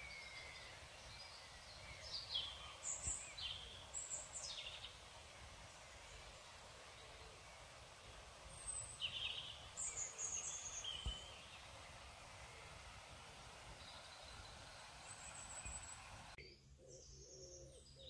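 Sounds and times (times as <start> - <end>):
faint low outdoor rumble: 0.0 - 18.0
small songbirds chirping: 0.0 - 18.0.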